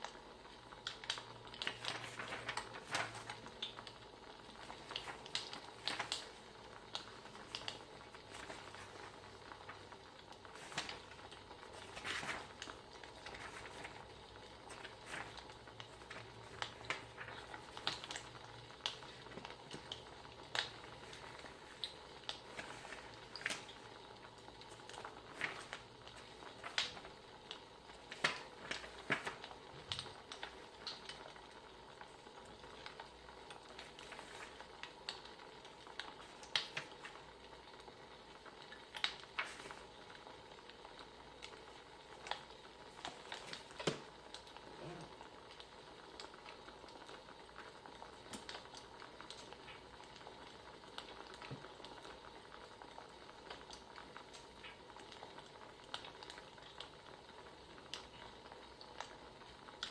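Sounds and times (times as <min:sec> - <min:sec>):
soft steady hiss: 0:00.0 - 0:59.9
wood fire crackling: 0:00.0 - 0:59.9.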